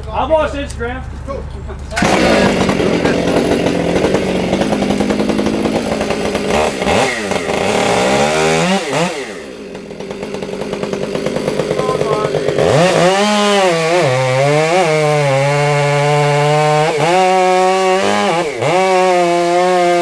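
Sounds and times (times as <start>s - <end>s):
chainsaw cutting a tree: 1.9s - 20.0s.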